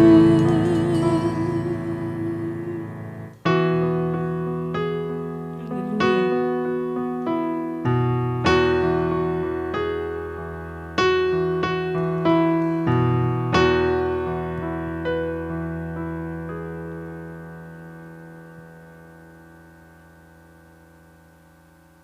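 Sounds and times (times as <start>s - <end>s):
keyboard playing slow chords: 0.0s - 22.0s.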